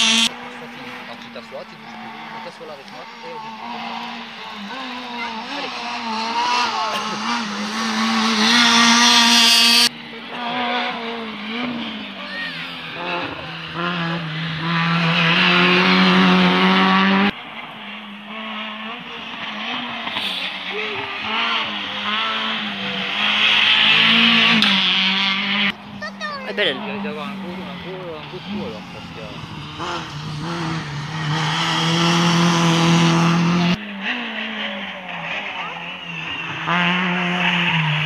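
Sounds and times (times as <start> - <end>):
rally cars revving past: 0.0 - 38.0.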